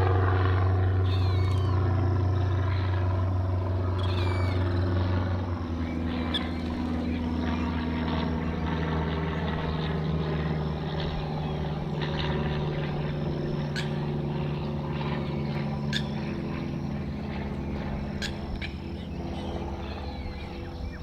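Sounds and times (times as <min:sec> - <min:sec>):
propeller aircraft droning: 0:00.0 - 0:21.0.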